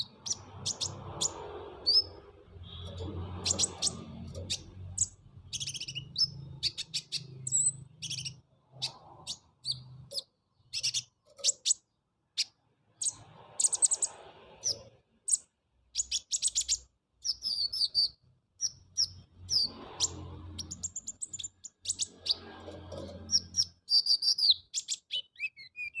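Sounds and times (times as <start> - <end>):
bird singing chirps and trills: 0.0 - 26.0.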